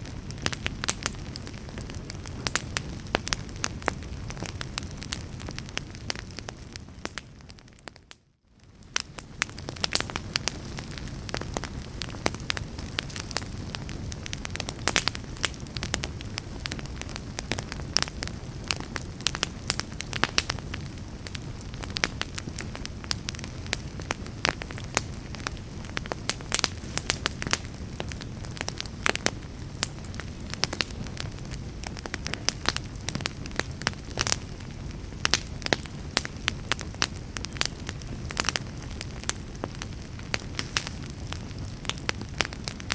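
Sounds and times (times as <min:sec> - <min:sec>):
low rumble of burning logs: 0:00.0 - 0:42.9
wood fire crackling and popping: 0:00.0 - 0:42.9.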